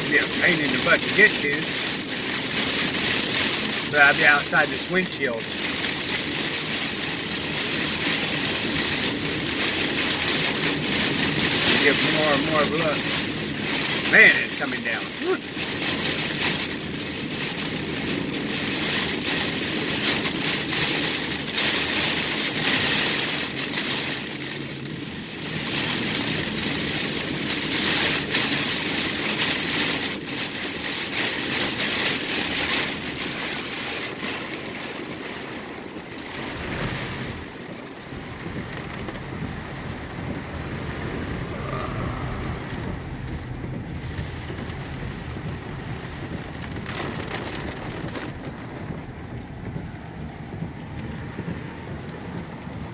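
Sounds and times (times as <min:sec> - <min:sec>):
car rumble: 0:00.0 - 0:52.9
heavy rain on car roof: 0:00.0 - 0:52.9.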